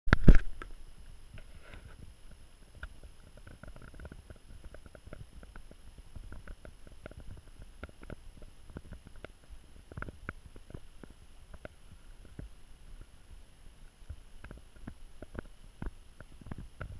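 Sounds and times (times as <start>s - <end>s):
faint low rumble: 0.1s - 16.9s
small clicks and crackles: 0.1s - 16.9s.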